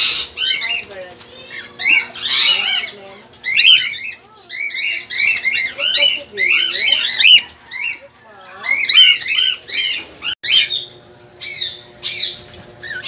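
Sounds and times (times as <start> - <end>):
cockatiels chirping: 0.0 - 13.0.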